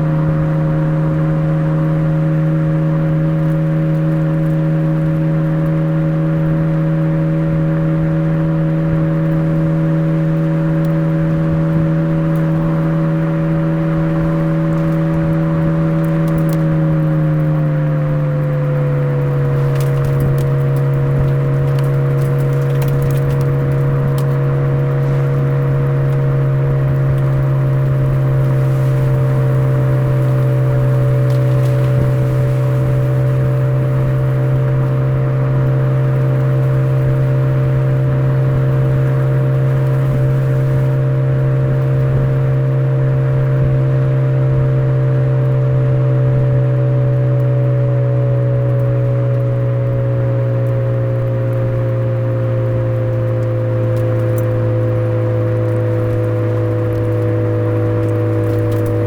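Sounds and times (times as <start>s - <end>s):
car engine exhaust drone: 0.0s - 59.0s.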